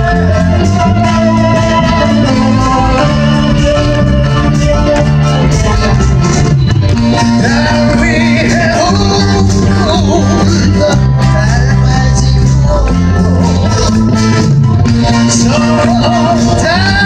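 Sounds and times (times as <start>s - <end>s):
bass notes: 0.0s - 17.0s
guitar: 0.0s - 17.0s.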